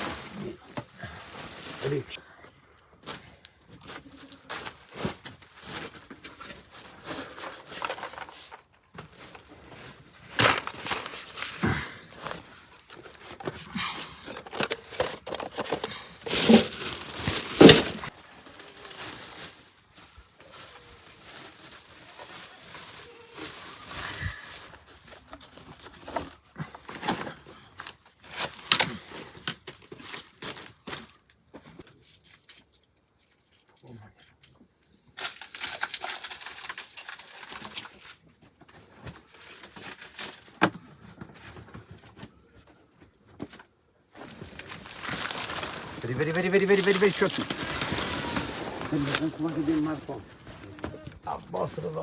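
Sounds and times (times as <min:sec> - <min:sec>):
rustling and crinkling: 0:00.0 - 0:02.2, 0:02.8 - 0:33.8, 0:34.4 - 0:52.0.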